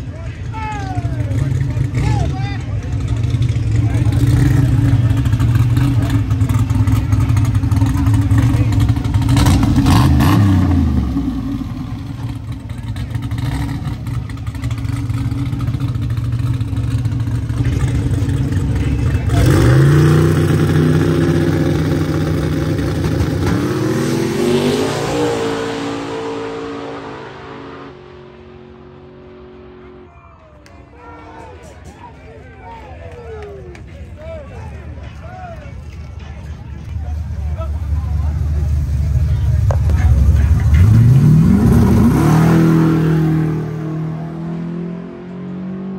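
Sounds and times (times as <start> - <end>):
drag racing truck engines: 0.0 - 45.9.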